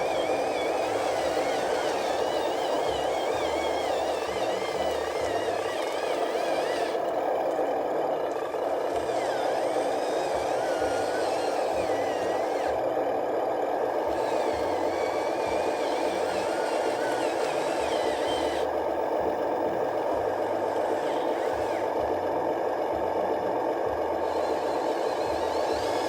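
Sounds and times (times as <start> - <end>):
small electric motor whirring: 0.0 - 22.2, 23.8 - 26.0.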